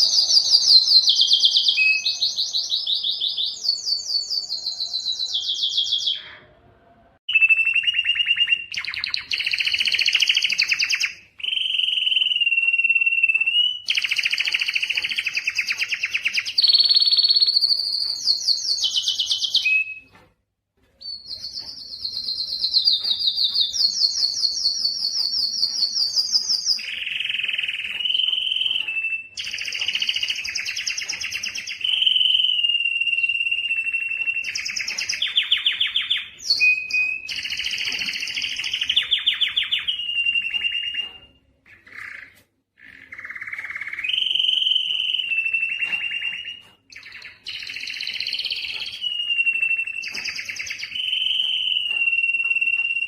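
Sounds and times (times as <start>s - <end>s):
canary singing rapid trills: 7.3s - 20.1s, 21.0s - 53.0s.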